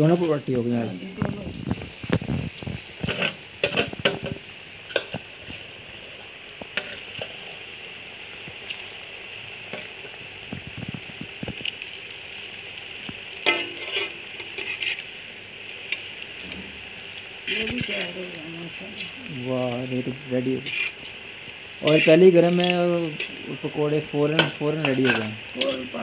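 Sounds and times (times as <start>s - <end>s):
batter sizzling in hot oil: 0.0s - 26.0s.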